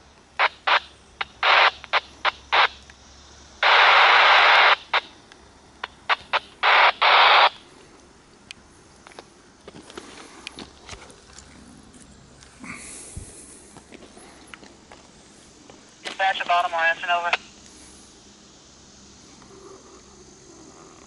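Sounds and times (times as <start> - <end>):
radio static crackles: 0.0 - 10.9, 12.0 - 21.0
radio static hiss: 0.0 - 11.2, 11.8 - 21.0.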